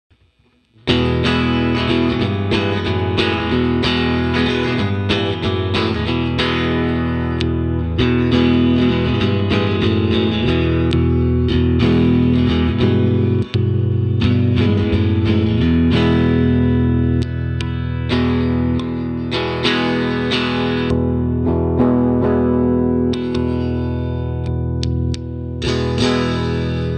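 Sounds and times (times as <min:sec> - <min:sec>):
electric guitar picked chords: 0:00.6 - 0:26.9.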